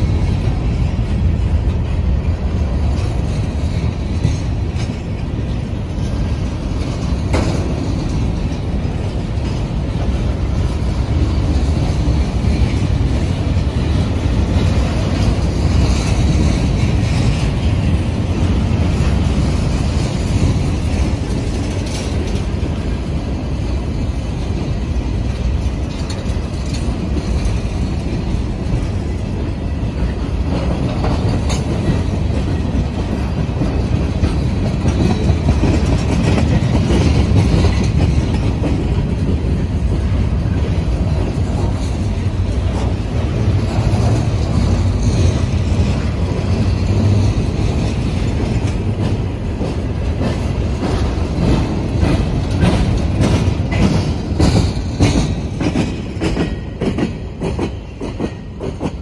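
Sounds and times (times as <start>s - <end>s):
steel wheels rumbling on rail: 0.0s - 59.0s
train cars clanking: 0.0s - 59.0s.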